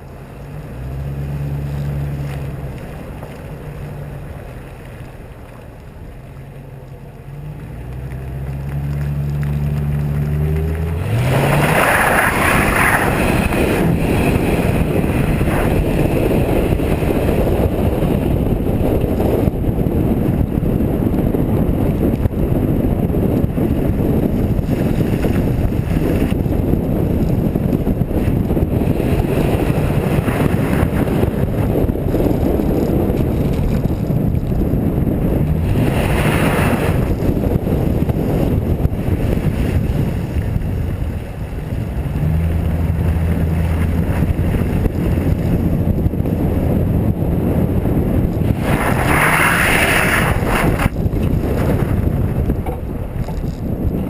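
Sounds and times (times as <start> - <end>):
wind rumble on microphone: 0.0 - 54.0
car engine revving: 0.1 - 20.4, 23.1 - 53.2
car sliding through snow: 0.2 - 54.0.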